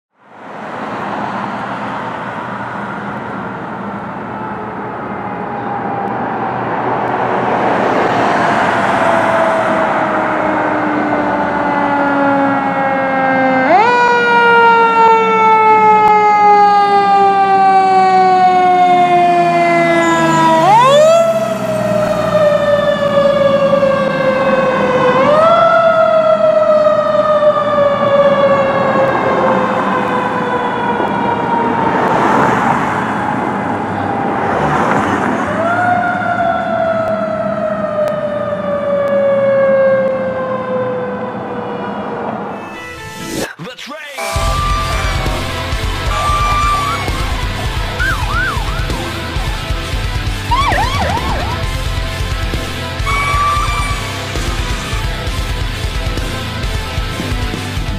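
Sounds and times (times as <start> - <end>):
fire engine siren: 0.2 - 43.5, 44.2 - 57.9.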